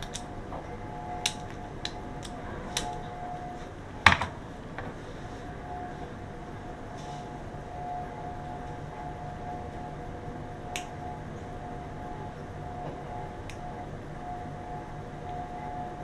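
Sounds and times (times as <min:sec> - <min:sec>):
mechanical hum with whining tone: 0:00.0 - 0:16.0.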